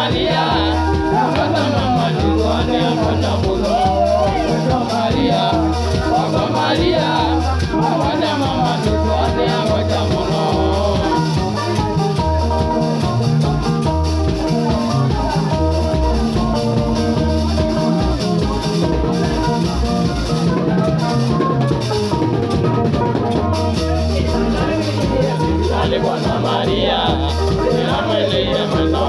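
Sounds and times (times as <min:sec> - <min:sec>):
drums: 0:00.0 - 0:29.0
electric guitars: 0:00.0 - 0:29.0
repeating low bass: 0:00.0 - 0:29.0.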